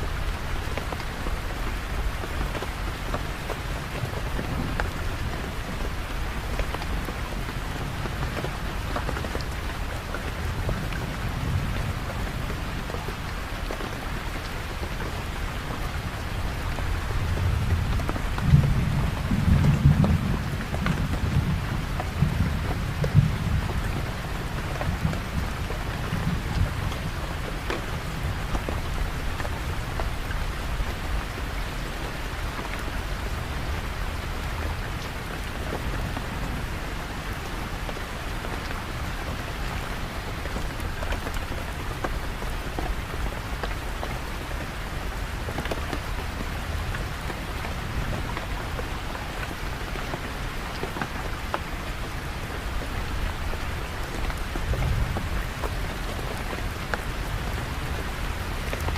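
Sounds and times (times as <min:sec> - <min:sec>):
rain pattering on surfaces: 0:00.0 - 0:58.9.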